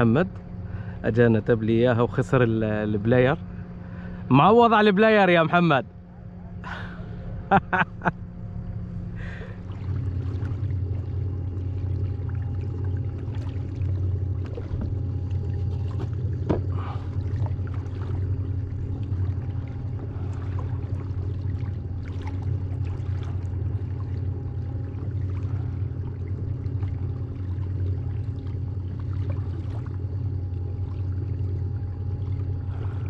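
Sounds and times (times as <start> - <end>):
steady low hum: 0.0 - 33.0
water lapping: 0.0 - 33.0.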